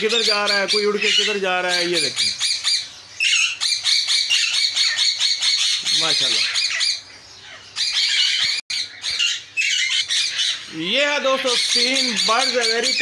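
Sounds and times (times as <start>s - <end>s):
parakeets screeching: 0.0s - 13.0s.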